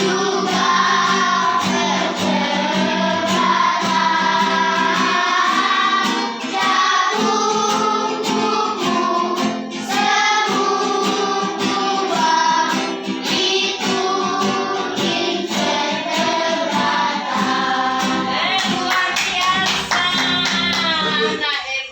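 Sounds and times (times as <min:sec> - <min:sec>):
children singing: 0:00.0 - 0:21.4.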